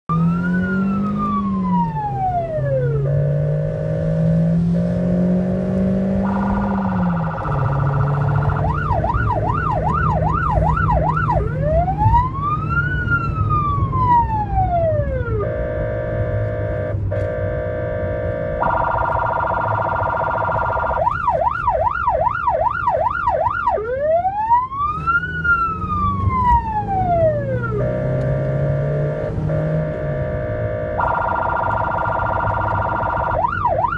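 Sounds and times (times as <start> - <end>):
engine and road noise: 0.0 - 33.9
ambulance siren: 0.1 - 33.9.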